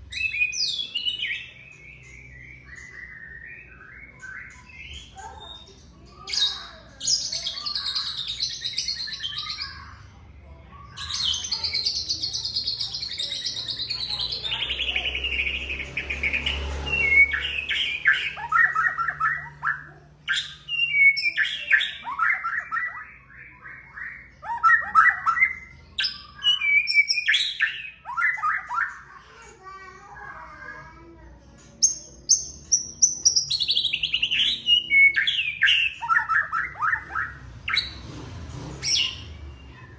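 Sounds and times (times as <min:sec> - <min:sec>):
bird singing trills and whistles: 0:00.0 - 0:10.0, 0:10.9 - 0:29.2, 0:31.8 - 0:39.9.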